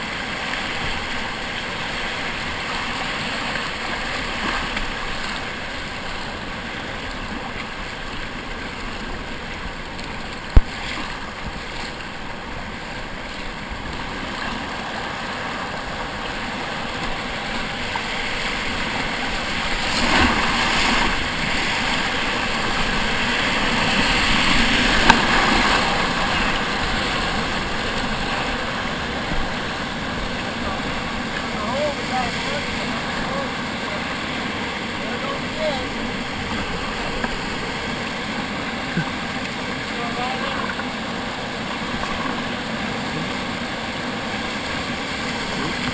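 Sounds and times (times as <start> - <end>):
rapids rushing and splashing: 0.0 - 45.9.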